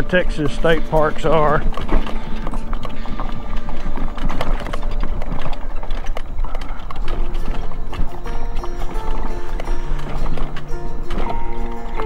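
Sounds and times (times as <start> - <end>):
scooter rattling over dirt trail: 0.0 - 12.0.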